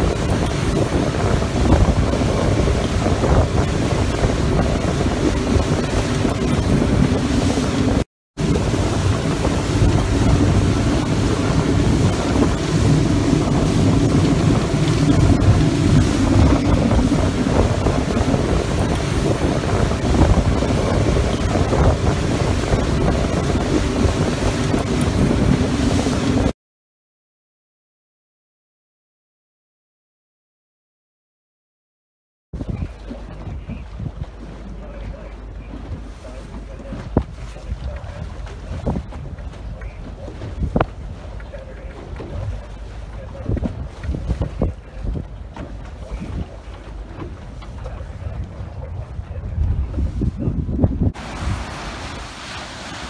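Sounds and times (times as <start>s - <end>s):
outboard motor: 0.0s - 26.5s, 32.6s - 53.0s
wind buffeting microphone: 0.0s - 26.5s, 32.6s - 53.0s
water rushing past hull: 0.0s - 26.6s, 32.6s - 53.0s.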